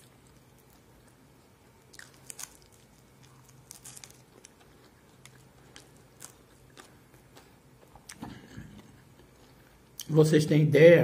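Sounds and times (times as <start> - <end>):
person chewing: 0.0 - 10.1
low steady hum: 0.0 - 11.0.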